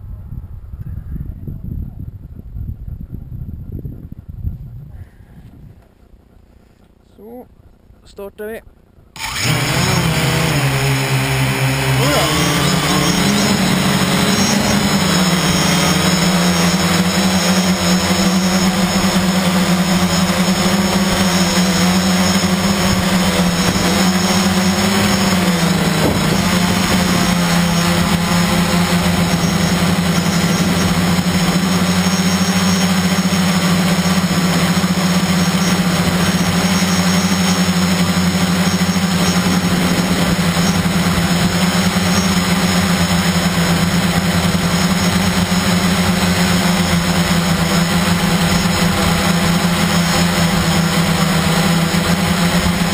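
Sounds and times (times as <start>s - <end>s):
drone motors humming: 0.2s - 52.9s.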